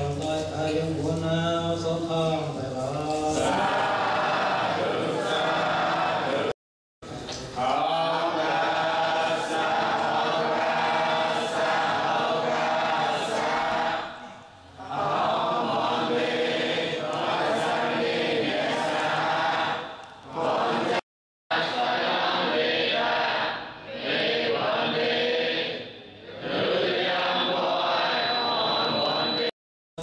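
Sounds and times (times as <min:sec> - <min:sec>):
voices chanting in unison: 0:00.0 - 0:06.6, 0:07.6 - 0:29.5.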